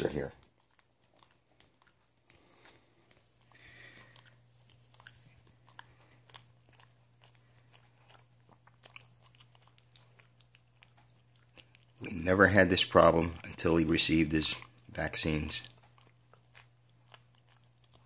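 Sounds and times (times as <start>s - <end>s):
dog chewing and licking paw: 0.0s - 18.0s.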